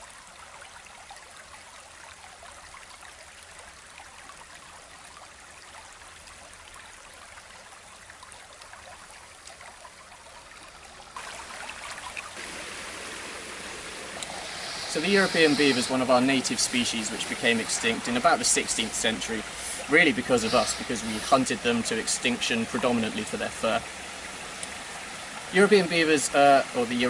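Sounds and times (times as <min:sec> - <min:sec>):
stream trickling over stones: 0:00.0 - 0:27.0.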